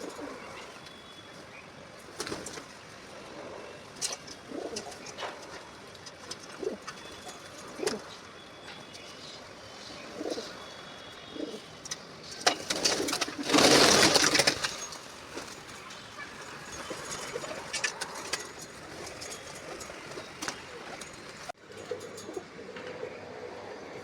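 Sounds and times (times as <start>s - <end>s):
pigeons cooing: 0.0s - 0.9s, 2.2s - 24.0s.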